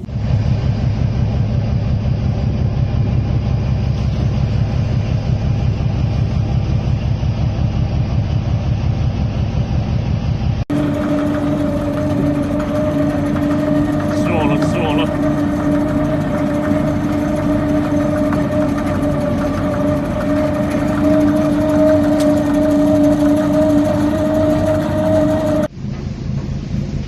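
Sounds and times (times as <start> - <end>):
boat diesel engine throbbing: 0.0 - 27.0
machine hum: 0.0 - 27.0.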